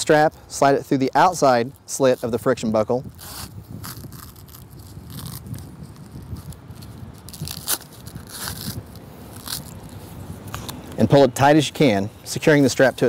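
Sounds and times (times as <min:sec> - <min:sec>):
hook-and-loop strap crackling: 0:00.0 - 0:11.2.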